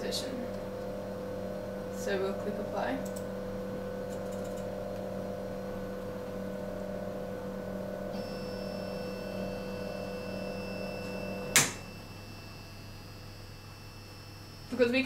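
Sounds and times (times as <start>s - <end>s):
high whine: 0.0s - 15.0s
laser cutter motors humming: 0.0s - 15.0s.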